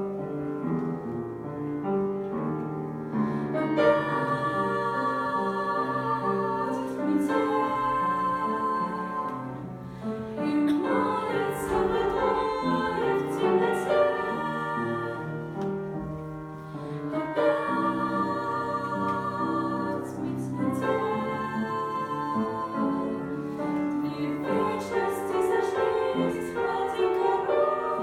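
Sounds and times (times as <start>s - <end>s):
women singing in harmony: 3.1s - 28.0s.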